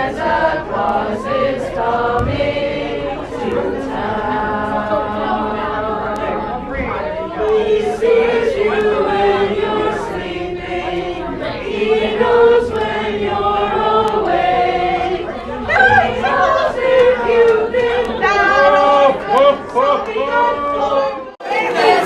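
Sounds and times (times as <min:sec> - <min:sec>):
group of people singing: 0:00.0 - 0:22.0.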